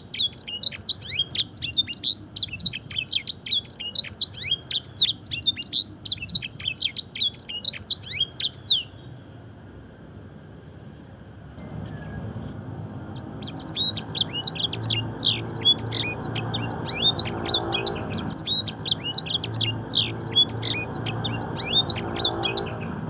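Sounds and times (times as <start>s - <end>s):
canary singing: 0.0s - 9.1s, 13.0s - 23.0s.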